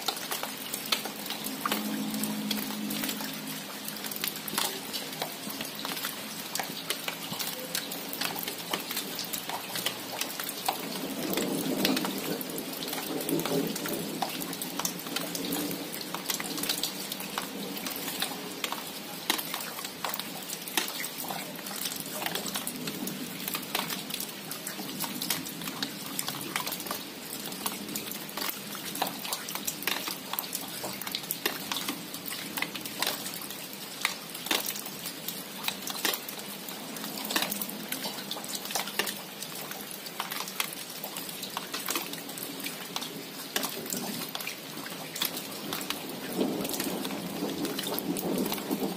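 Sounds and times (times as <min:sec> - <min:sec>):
close raindrop hits: 0:00.0 - 0:48.9
steady rain falling: 0:00.0 - 0:48.9.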